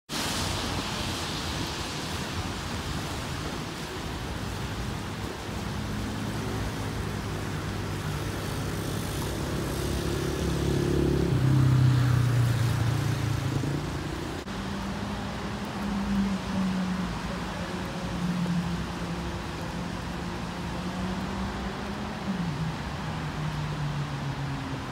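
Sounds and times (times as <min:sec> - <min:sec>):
moving water: 0:00.1 - 0:24.9
wind: 0:00.1 - 0:24.9.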